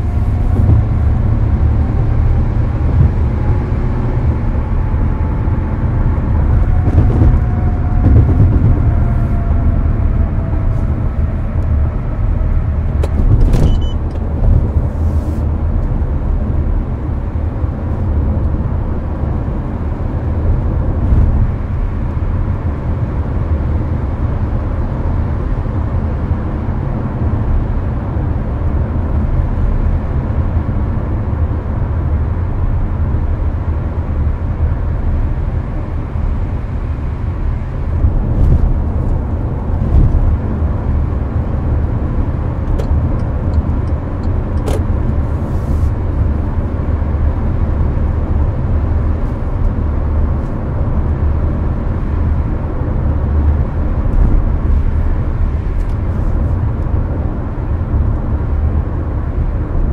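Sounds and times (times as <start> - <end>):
air conditioning blowing: 0.0 - 59.9
car tyre and engine rumble: 0.0 - 59.9.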